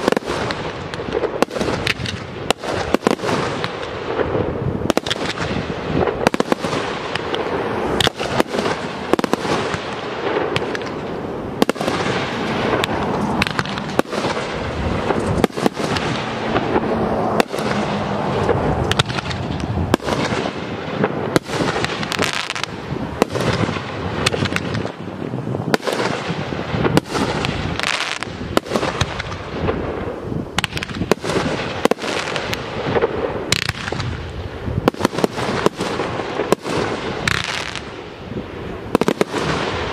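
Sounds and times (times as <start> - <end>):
rumble and crackle: 0.0 - 39.9.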